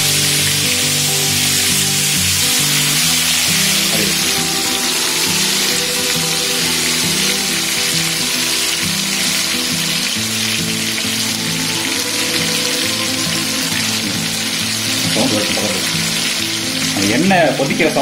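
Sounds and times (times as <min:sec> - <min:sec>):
background music: 0:00.0 - 0:18.0
hot oil sizzling: 0:00.0 - 0:18.0.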